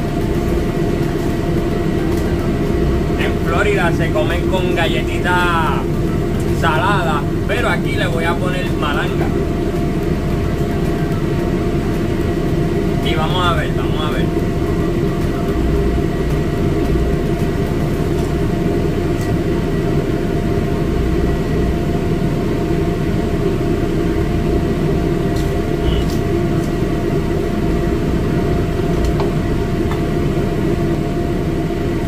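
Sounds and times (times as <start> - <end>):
machine hum with high whine: 0.0 - 32.0.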